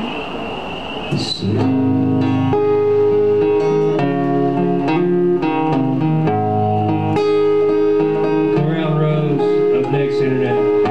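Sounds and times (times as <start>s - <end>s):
strummed guitar chords: 1.2s - 10.9s
small band playing live: 1.4s - 10.9s.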